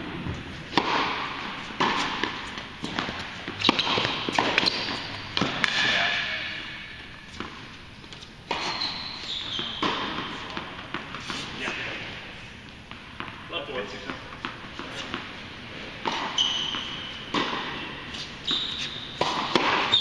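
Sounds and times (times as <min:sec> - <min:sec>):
tennis balls bouncing on hard court: 0:00.0 - 0:11.8, 0:12.6 - 0:20.0
tennis balls struck by rackets: 0:00.0 - 0:20.0.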